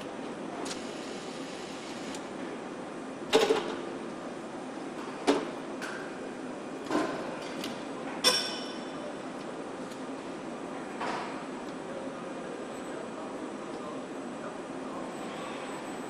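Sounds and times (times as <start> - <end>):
steady factory hum: 0.0 - 16.0.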